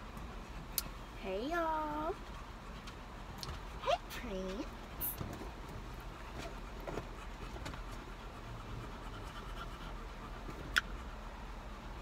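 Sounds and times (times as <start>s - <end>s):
dog panting softly: 0.0s - 12.0s
low steady hum: 0.0s - 12.0s.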